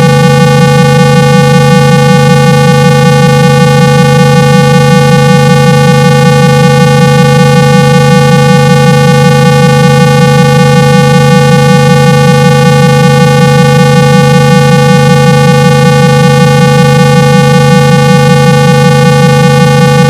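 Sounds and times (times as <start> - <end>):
loud low test tone: 0.0 - 20.0.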